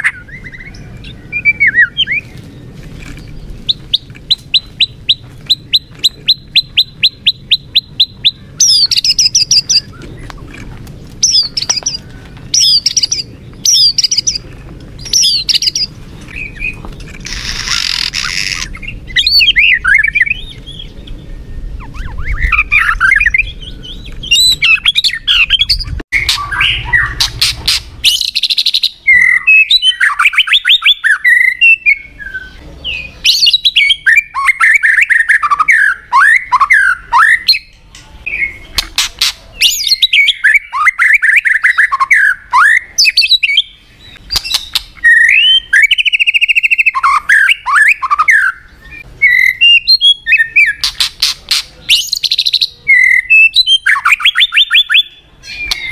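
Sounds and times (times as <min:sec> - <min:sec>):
bird singing: 0:00.0 - 0:55.9.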